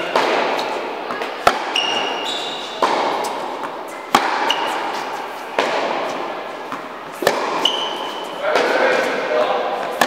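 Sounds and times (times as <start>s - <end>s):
tennis ball struck by racket: 0.0s - 9.2s
shoes squeaking on court: 0.0s - 10.0s
tennis ball bounces: 0.0s - 10.0s.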